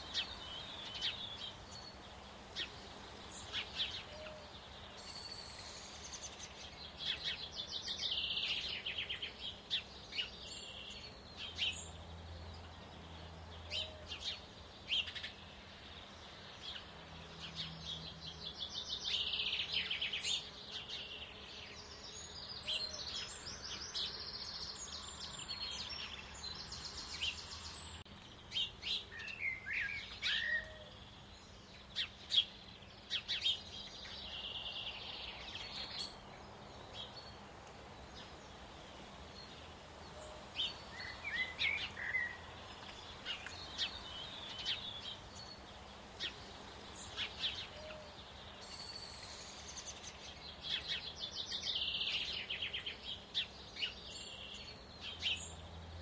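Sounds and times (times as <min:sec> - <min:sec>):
songbirds chirping and chattering: 0:00.0 - 0:56.0.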